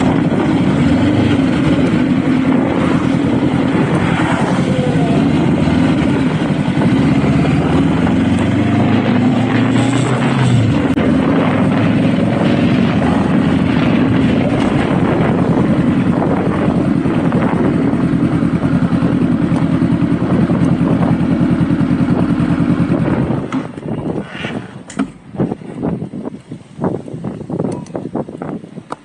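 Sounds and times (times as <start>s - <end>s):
motorcycle engine running: 0.0s - 24.3s.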